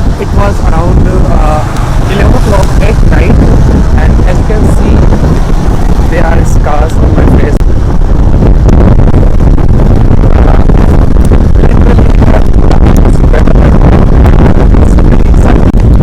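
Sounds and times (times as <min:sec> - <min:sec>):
vehicle road and engine noise: 0:00.0 - 0:16.0
wind buffeting microphone: 0:00.0 - 0:16.0.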